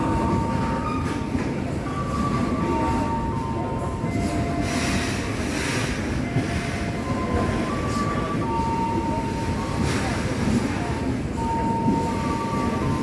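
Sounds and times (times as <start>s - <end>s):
freight train wagons rumbling: 0.0s - 13.0s.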